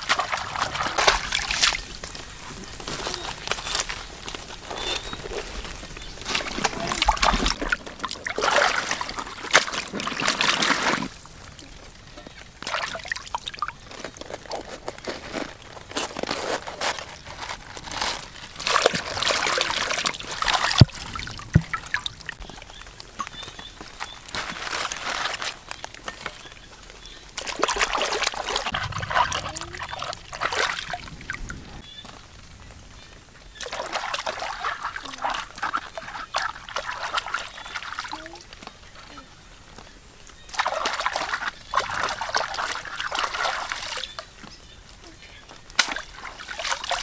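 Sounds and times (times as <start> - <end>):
hands scrubbing fruit in water: 0.0 - 31.5, 33.6 - 39.2, 40.4 - 44.4, 45.7 - 47.0
water splashing and sloshing: 0.0 - 47.0.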